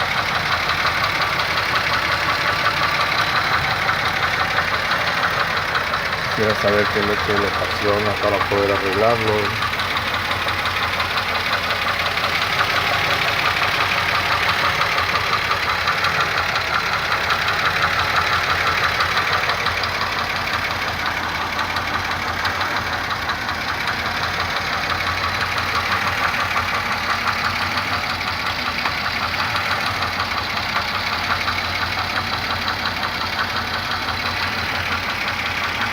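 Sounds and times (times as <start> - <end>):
car engine running: 0.0 - 35.9
rapid even engine knocking: 0.0 - 35.9.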